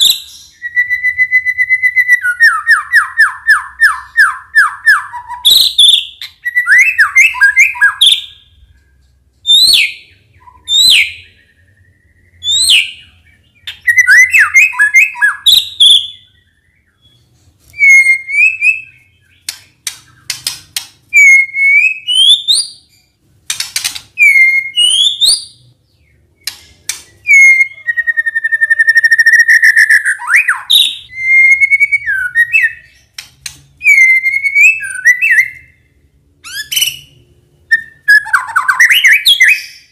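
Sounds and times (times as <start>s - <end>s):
bird singing whistled phrases: 0.0s - 8.4s, 9.5s - 17.2s, 17.8s - 19.4s, 21.1s - 22.9s, 24.2s - 25.6s, 27.1s - 33.0s, 33.8s - 35.8s, 36.4s - 39.9s.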